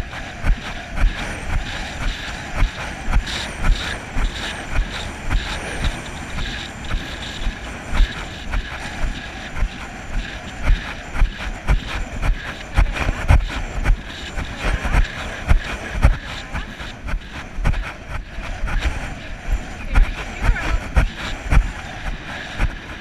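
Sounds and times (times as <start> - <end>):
wind noise on camera: 0.0 - 23.0.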